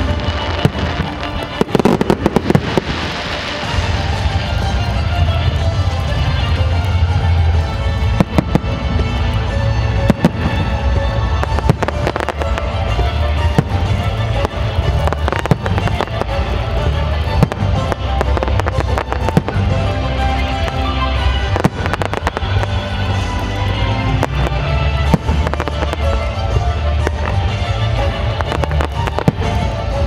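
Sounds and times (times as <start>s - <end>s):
fireworks bangs: 0.0s - 30.0s
music with heavy bass: 0.0s - 30.0s.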